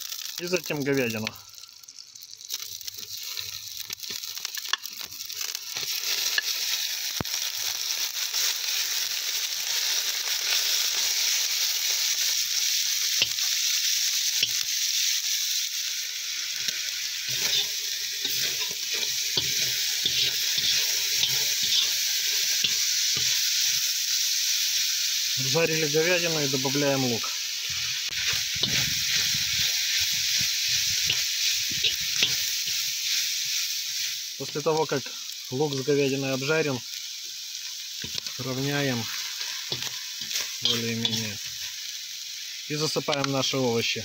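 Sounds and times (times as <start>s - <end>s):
meat sizzling in butter: 0.0s - 44.0s.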